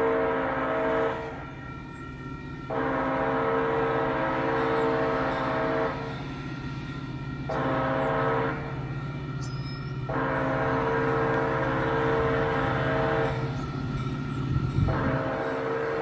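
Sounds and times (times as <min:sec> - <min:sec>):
train air horn blasts: 0:00.0 - 0:06.7, 0:07.4 - 0:08.9, 0:10.0 - 0:16.0.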